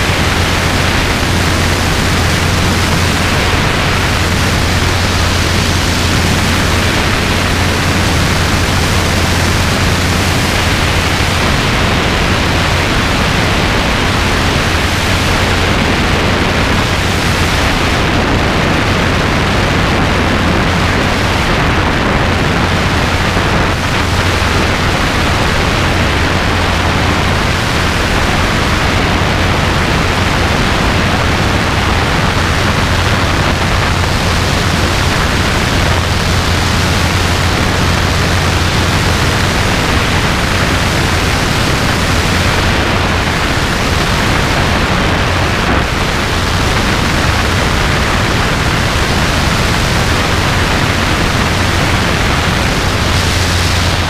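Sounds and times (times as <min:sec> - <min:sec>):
helicopter engine and rotor drone: 0:00.0 - 0:54.0
wind rushing over camera: 0:00.0 - 0:54.0.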